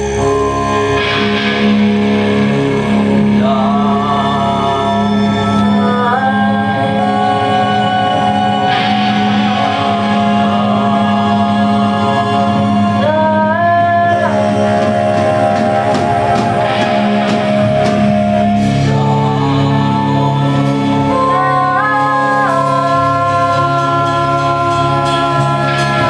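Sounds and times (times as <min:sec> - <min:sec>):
bass: 0:00.0 - 0:26.0
drums: 0:00.0 - 0:26.0
electric guitar: 0:00.0 - 0:26.0
person singing: 0:00.0 - 0:26.0.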